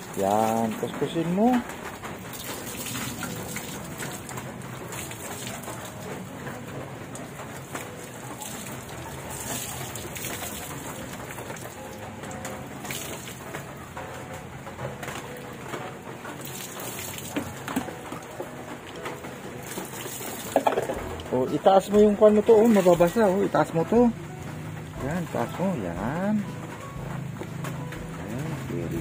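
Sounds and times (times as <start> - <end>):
water running and splashing: 0.0 - 27.4.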